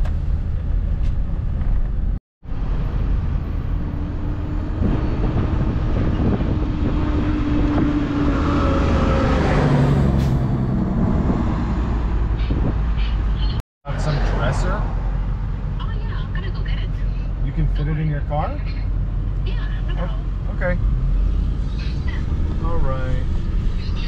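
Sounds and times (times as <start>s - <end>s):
vehicle road and engine noise: 0.0s - 24.0s.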